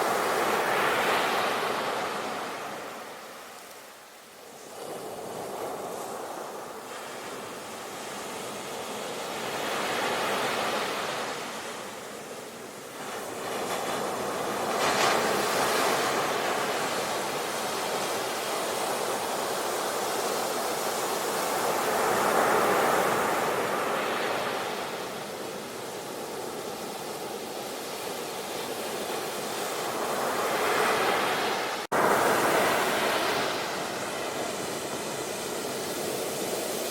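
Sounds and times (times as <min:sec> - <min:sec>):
sea waves breaking on shore: 0:00.0 - 0:36.9.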